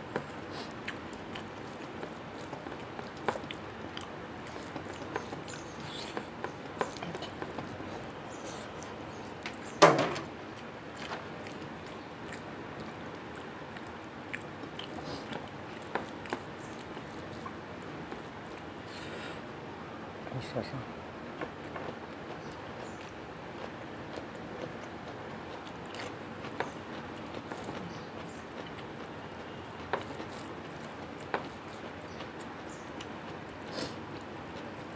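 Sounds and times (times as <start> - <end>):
chewing: 0.0 - 9.8, 10.4 - 19.2, 21.4 - 34.9.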